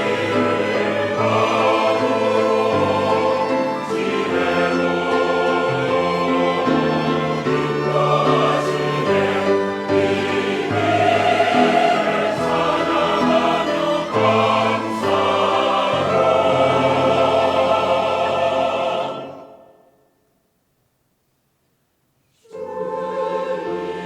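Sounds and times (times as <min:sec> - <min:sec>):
choir singing a hymn: 0:00.0 - 0:20.0, 0:22.4 - 0:24.0.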